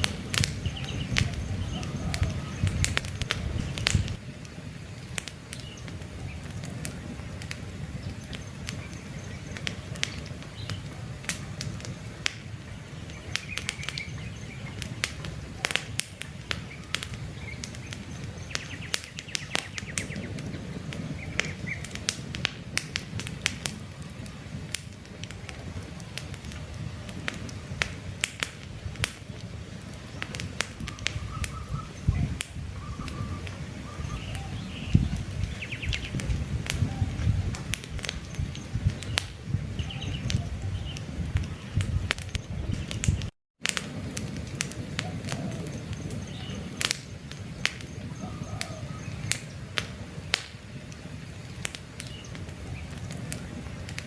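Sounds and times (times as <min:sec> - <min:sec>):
birds chirping: 0:00.0 - 0:22.1, 0:29.2 - 0:43.3, 0:44.7 - 0:54.0
campfire crackling and popping: 0:00.0 - 0:54.0.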